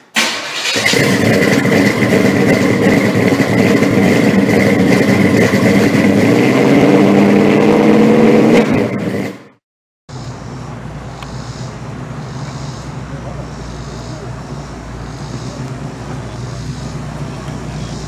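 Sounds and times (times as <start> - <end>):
loud car engine running: 0.6 - 18.0.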